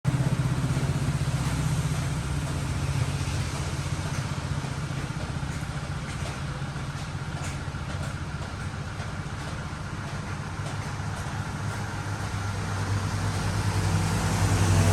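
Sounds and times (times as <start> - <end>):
vehicle engine idling: 0.1 - 14.9.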